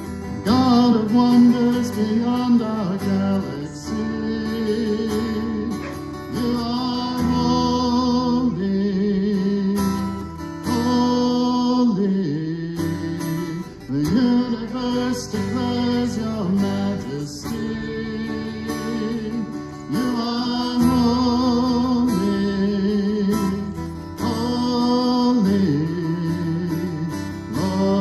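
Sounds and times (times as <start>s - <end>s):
acoustic guitar strumming: 0.0s - 28.0s
man singing into microphone: 0.3s - 28.0s.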